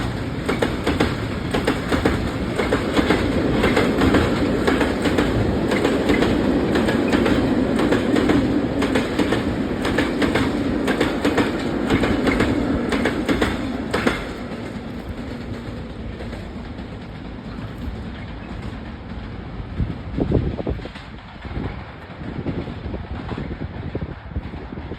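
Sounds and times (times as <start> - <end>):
freight train wagons rolling: 0.0 - 24.9
wheels clacking over rail joints: 0.0 - 24.9.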